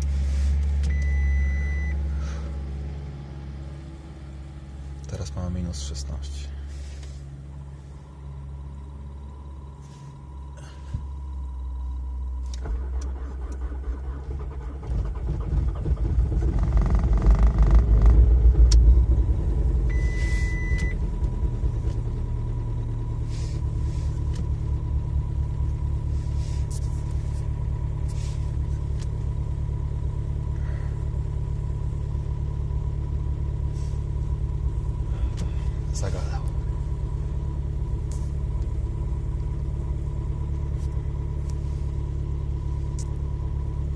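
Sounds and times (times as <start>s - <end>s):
diesel engine starting and idling: 0.0s - 43.9s.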